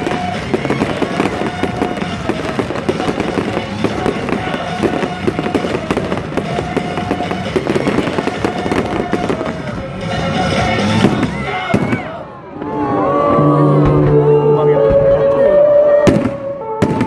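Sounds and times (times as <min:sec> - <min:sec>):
fireworks bangs and crackles: 0:00.0 - 0:12.8, 0:16.0 - 0:17.0
music playing: 0:00.0 - 0:17.0.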